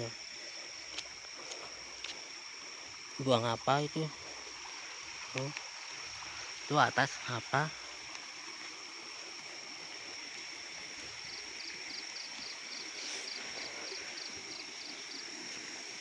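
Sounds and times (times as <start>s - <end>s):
insect chirping: 0.0s - 16.0s
insects droning: 0.0s - 16.0s
soft hiss: 0.0s - 16.0s.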